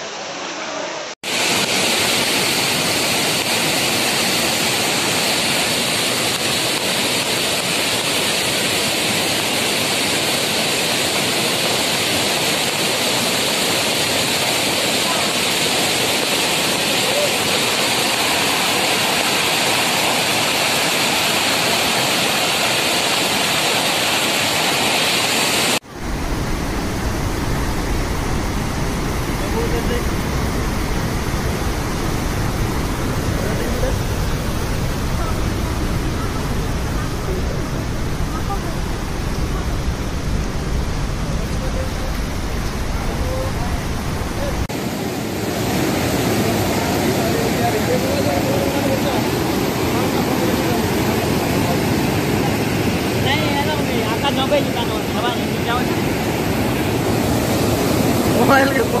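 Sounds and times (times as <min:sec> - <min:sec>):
floodwater rushing over rocks: 0:00.0 - 0:59.0
white water over rocks: 0:00.0 - 0:59.0.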